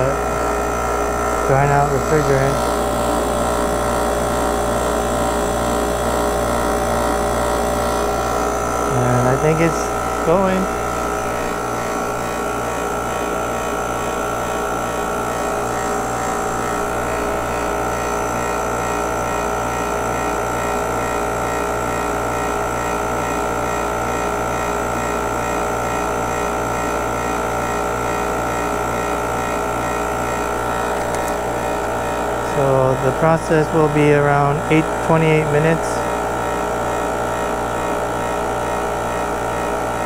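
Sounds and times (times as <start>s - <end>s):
compressor humming: 0.0s - 40.0s.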